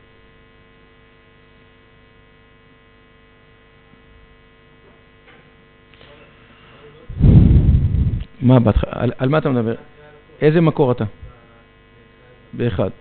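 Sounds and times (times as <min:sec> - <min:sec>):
faint electrical mains hum: 0:00.0 - 0:13.0.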